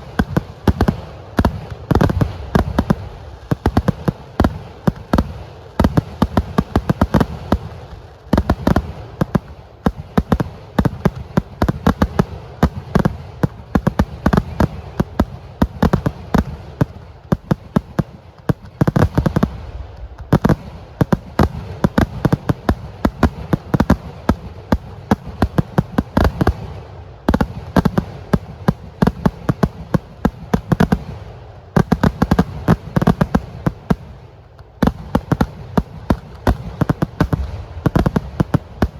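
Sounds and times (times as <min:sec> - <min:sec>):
firecracker bangs: 0:00.0 - 0:38.9.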